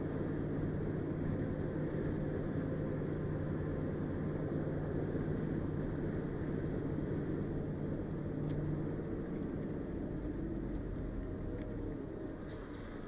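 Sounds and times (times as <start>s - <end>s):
constant low hum: 0.0s - 13.0s
moving vehicle running noise: 0.0s - 13.0s.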